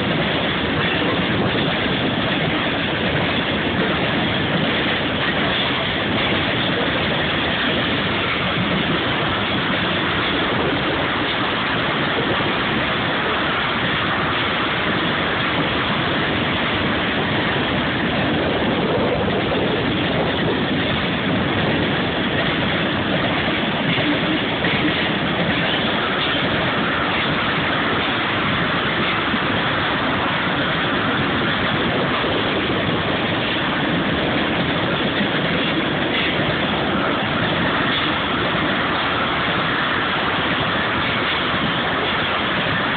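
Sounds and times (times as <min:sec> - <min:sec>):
freight train rolling past: 0:00.0 - 0:42.9.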